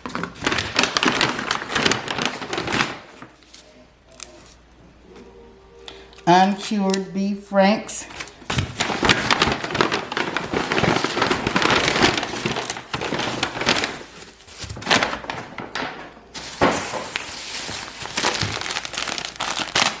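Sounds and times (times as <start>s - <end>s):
food packaging crinkling: 0.0s - 4.6s, 8.1s - 20.0s.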